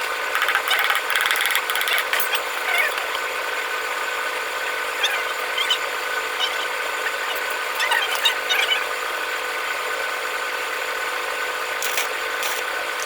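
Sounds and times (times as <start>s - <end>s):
power tool running: 0.0s - 13.0s.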